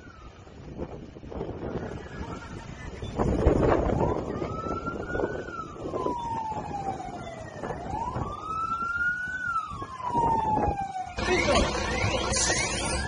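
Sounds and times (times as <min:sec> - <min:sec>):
emergency vehicle siren wailing: 0:00.0 - 0:13.0.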